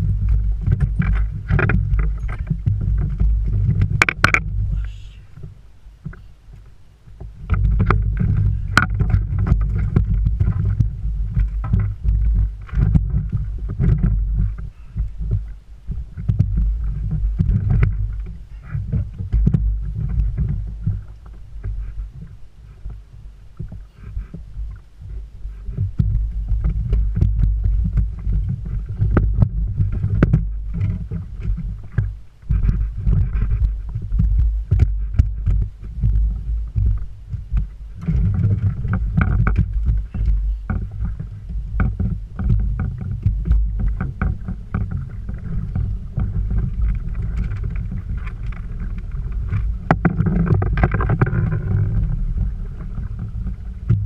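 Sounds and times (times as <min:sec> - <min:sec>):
light clicks and knocks: 0:00.0 - 0:23.0, 0:25.7 - 0:54.0
wind buffeting microphone: 0:00.0 - 0:54.0.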